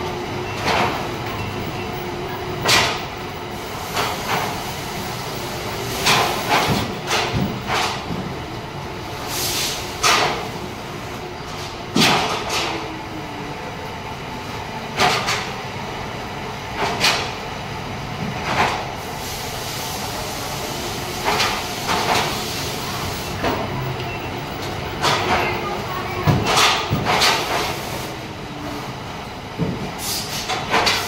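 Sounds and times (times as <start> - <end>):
factory machinery hum: 0.0 - 31.0.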